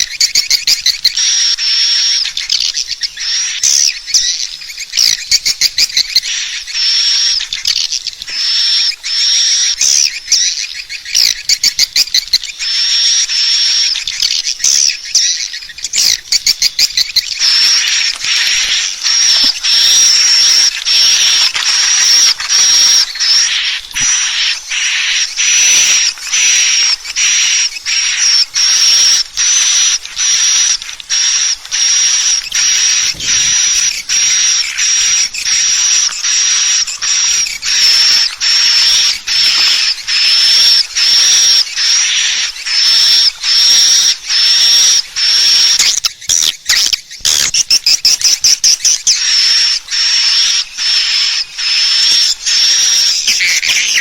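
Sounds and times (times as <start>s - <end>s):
high buzzy bird chirps: 0.0s - 54.0s.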